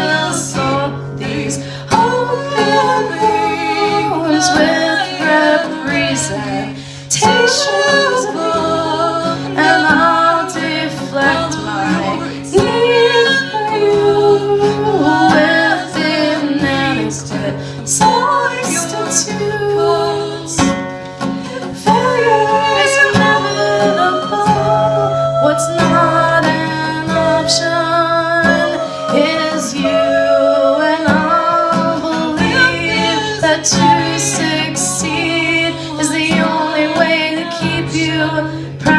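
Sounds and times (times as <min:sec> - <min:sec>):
guitar: 0:00.0 - 0:38.9
woman singing: 0:00.0 - 0:38.9.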